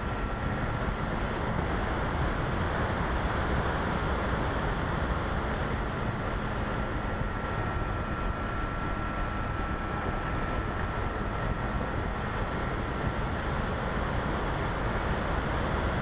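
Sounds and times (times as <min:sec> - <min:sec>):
thin steady whine: 0:00.0 - 0:16.0.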